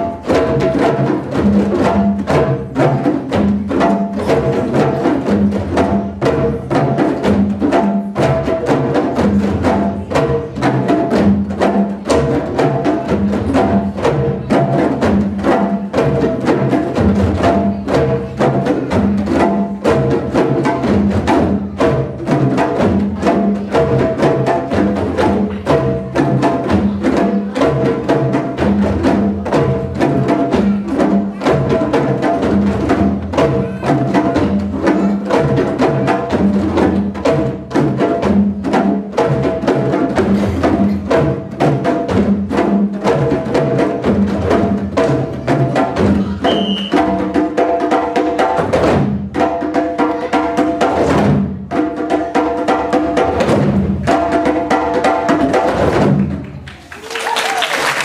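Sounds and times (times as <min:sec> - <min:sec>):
large drums struck with sticks: 0:00.0 - 0:56.6
djembe hand drums: 0:00.0 - 0:56.7.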